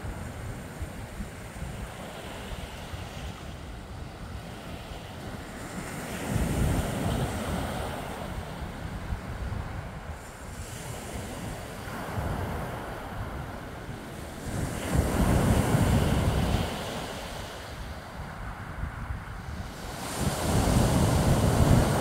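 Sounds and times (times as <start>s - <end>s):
waves washing on pebble beach: 0.0s - 22.0s.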